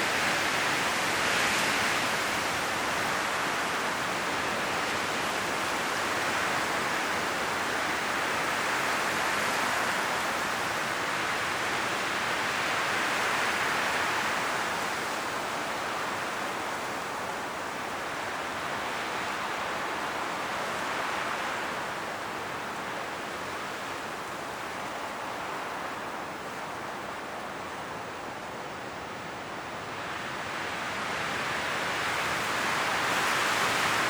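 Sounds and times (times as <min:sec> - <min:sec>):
wind rustling leaves: 0:00.0 - 0:34.0.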